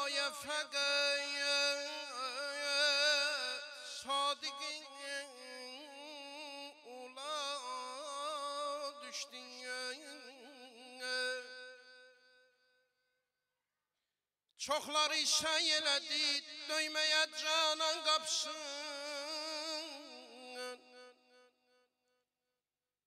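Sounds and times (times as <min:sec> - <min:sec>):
man singing devotional song: 0:00.0 - 0:12.5, 0:14.6 - 0:21.2.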